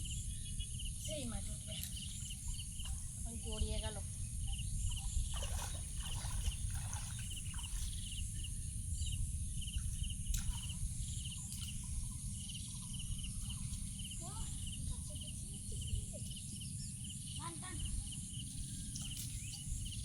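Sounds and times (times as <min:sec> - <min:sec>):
insects buzzing: 0:00.0 - 0:20.0
pulsed insect chirp: 0:00.0 - 0:20.0.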